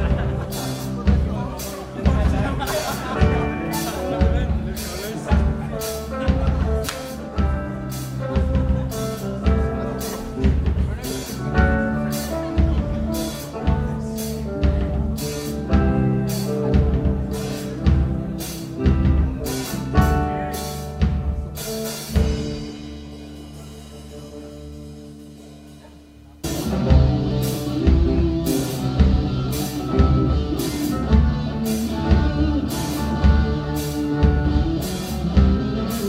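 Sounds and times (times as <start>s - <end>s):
band music: 0.0s - 36.0s
steady drum beat: 0.0s - 36.0s.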